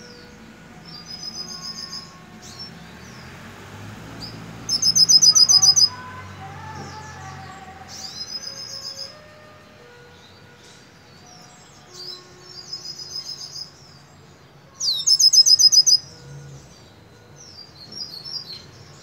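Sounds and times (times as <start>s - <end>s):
bird singing metallic trills: 0.0s - 19.0s.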